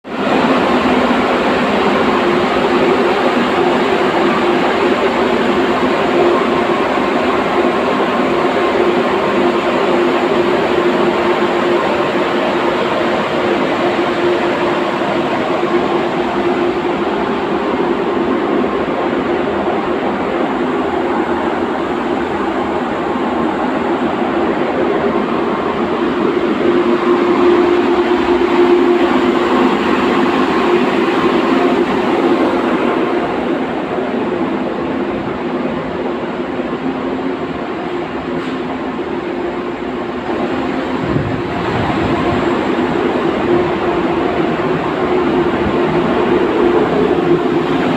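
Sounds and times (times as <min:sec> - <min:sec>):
rushing water noise: 0:00.1 - 0:36.2, 0:39.4 - 0:47.9
ship machinery hum: 0:00.1 - 0:47.9.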